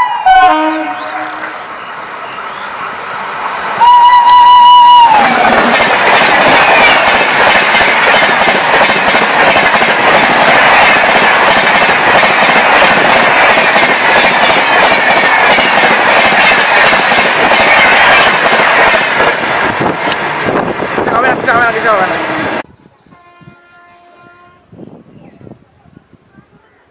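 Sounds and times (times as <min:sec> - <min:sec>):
train rushing past: 0:00.0 - 0:25.0.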